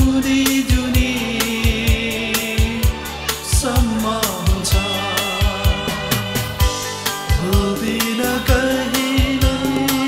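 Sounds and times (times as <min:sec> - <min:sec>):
held sung or keyboard notes: 0:00.0 - 0:10.0
live pop band music: 0:00.0 - 0:10.0
steady drum beat: 0:00.0 - 0:10.0.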